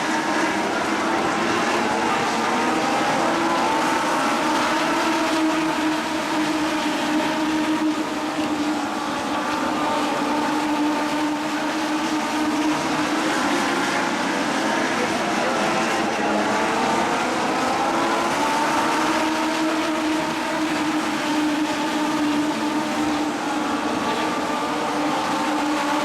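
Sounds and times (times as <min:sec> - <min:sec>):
race car engines at high revs: 0:00.0 - 0:26.0.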